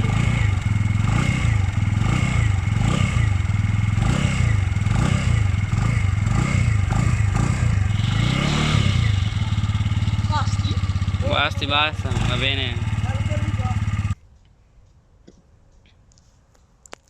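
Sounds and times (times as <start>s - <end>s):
scooter engine revving: 0.0s - 14.2s.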